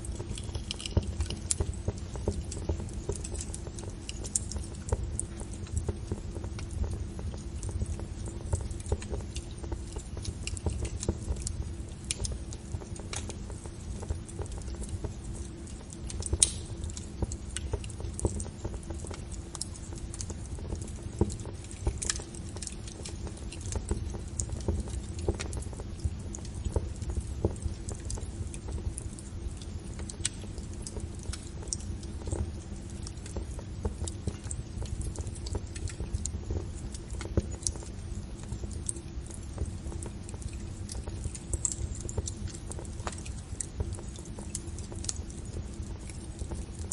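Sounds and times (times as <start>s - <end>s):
fire crackling: 0.0s - 46.9s.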